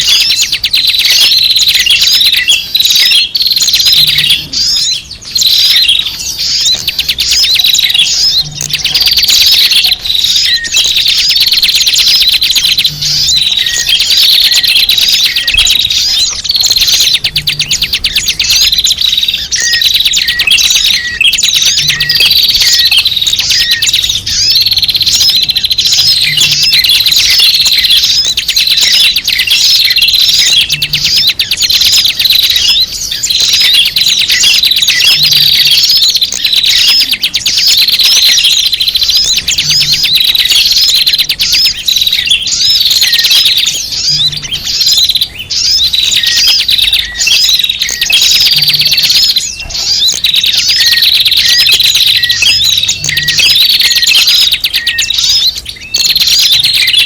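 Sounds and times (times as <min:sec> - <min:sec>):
small birds chirping chorus: 0:00.0 - 0:57.0.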